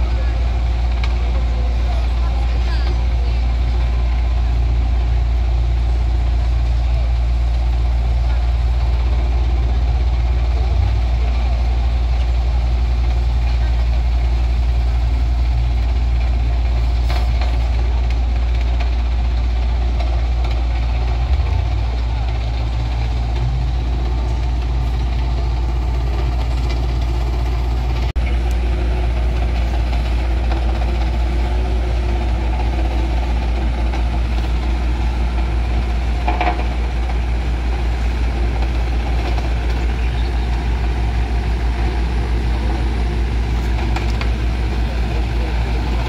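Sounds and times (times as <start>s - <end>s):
backhoe loader engine: 0.0s - 46.0s
road roller working: 0.0s - 46.0s.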